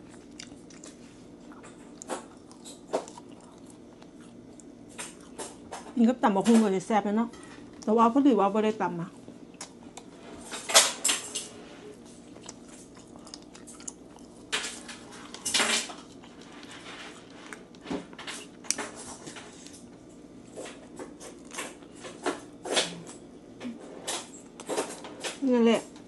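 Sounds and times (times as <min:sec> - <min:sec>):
chewing and crunching food: 0:00.0 - 0:06.7, 0:07.3 - 0:08.0, 0:09.1 - 0:26.0.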